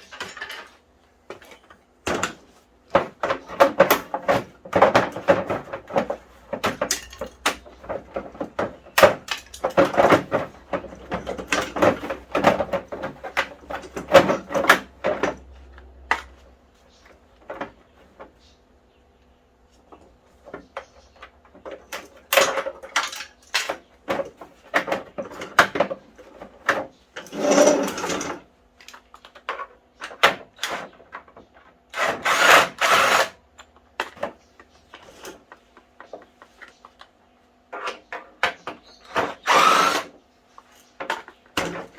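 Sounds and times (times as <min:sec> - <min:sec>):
tools clicking and knocking on metal: 0:00.0 - 0:18.4, 0:19.9 - 0:40.1, 0:40.8 - 0:41.9.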